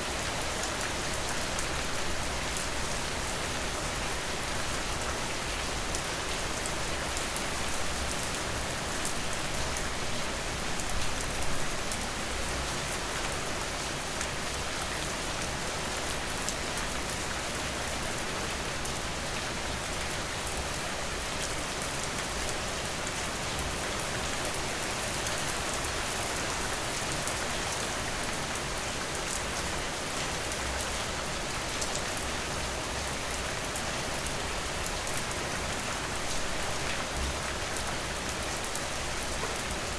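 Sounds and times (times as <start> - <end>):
steady rain with drop ticks: 0.0 - 39.9.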